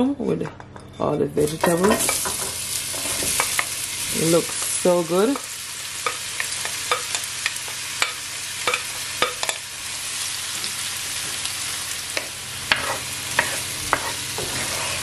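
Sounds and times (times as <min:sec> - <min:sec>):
vegetables sizzling in oil: 0:01.5 - 0:15.0.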